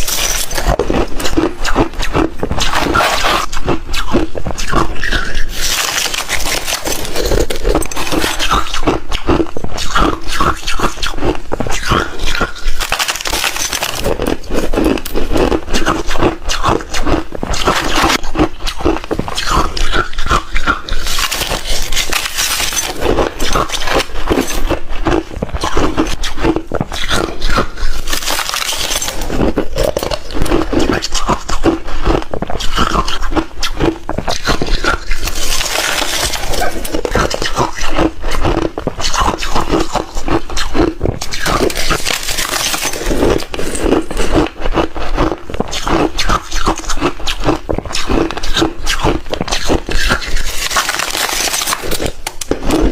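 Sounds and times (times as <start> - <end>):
ice being crunched and chewed: 0.0 - 52.9
wet mouth sounds: 0.0 - 52.9.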